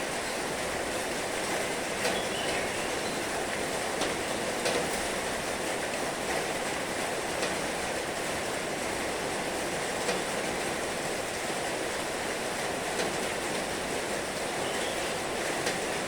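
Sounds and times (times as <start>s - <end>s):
heavy rain falling: 0.0s - 16.0s
rain drops ticking: 0.0s - 16.0s.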